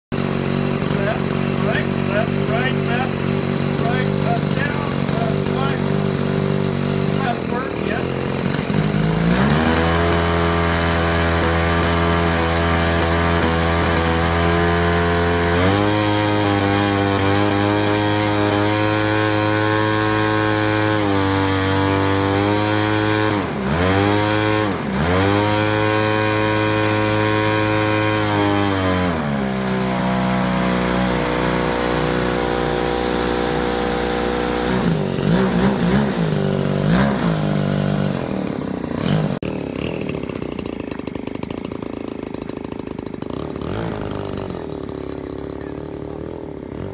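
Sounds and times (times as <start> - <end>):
engine throttle blips: 0.1 - 46.9
two-stroke engine running propeller: 0.1 - 46.9.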